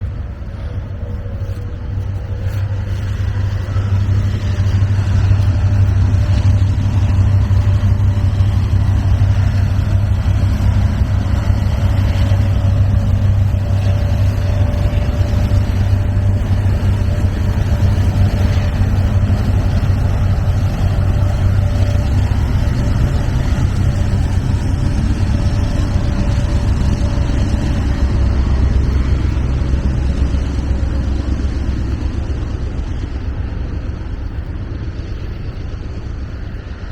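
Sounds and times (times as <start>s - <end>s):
diesel locomotive engine rumble: 0.0s - 36.9s
faint steady whine: 0.0s - 36.9s.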